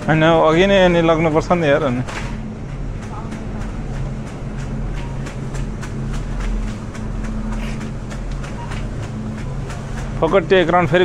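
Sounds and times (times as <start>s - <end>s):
low hum and rumble: 0.0s - 11.0s
quick regular clicks: 0.8s - 11.0s.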